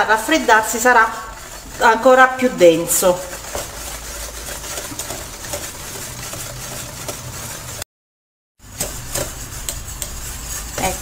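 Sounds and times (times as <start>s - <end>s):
whisk scraping metal pot: 0.0s - 7.8s, 8.6s - 11.0s.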